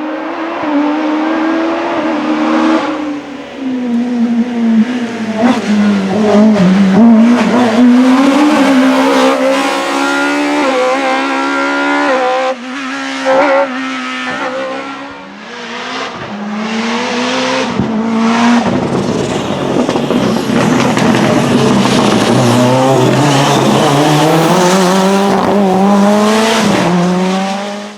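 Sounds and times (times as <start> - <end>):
car engine revving hard: 0.0 - 27.9.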